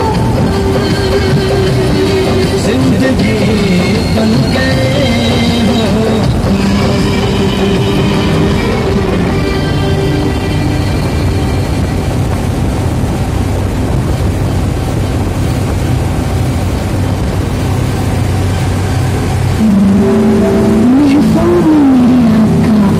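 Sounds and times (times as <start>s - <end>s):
wavering melody: 0.0s - 13.6s, 16.4s - 22.9s
harvester engine running: 0.0s - 22.9s.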